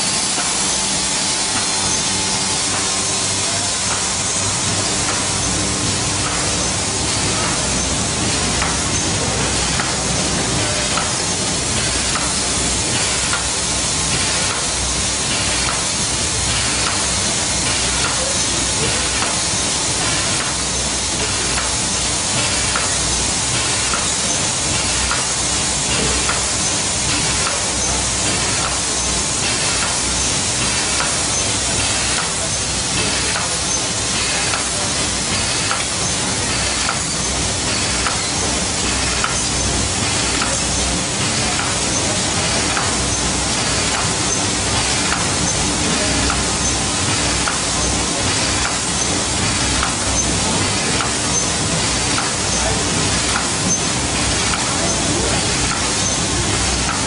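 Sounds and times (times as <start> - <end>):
machine hissing: 0.0 - 57.0.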